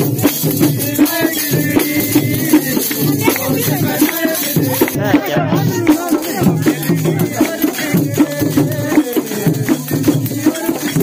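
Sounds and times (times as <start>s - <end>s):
folk dance music: 0.0s - 11.0s
rattling percussion beat: 0.0s - 11.0s.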